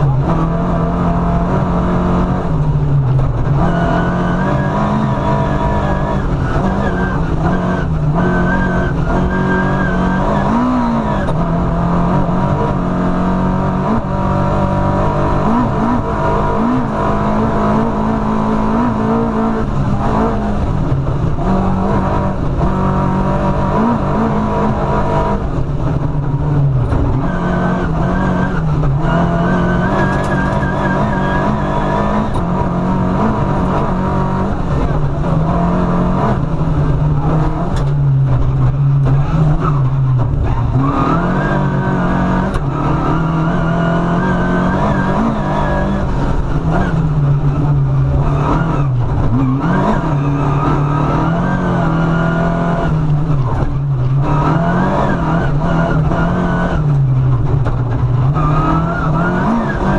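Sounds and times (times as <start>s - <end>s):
rally car engine revving through gears: 0.0s - 59.9s.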